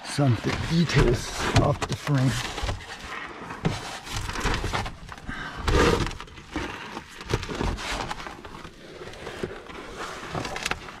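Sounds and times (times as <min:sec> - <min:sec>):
scraping on plywood over gravel: 0:00.2 - 0:11.0.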